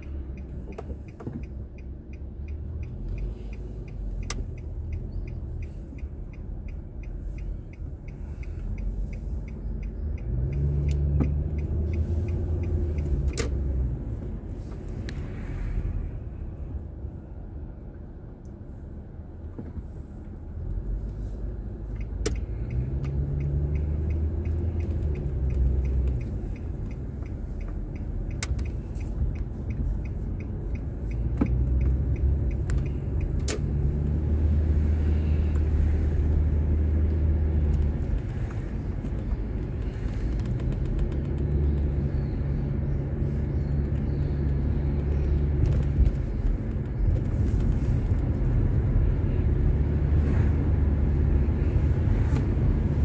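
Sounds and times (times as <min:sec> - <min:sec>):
regular ticking: 0:00.0 - 0:15.3, 0:20.4 - 0:50.2
car engine and road noise: 0:00.0 - 0:53.0.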